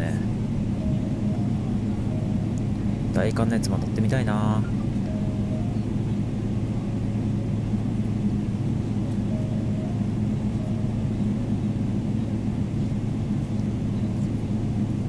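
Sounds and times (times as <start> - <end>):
aircraft cabin hum: 0.0 - 15.0.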